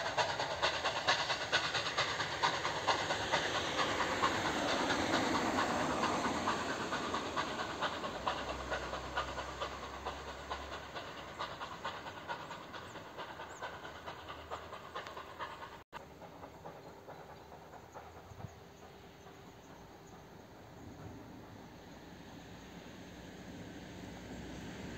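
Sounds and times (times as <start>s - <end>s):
steam locomotive chuffing: 0.0s - 24.9s.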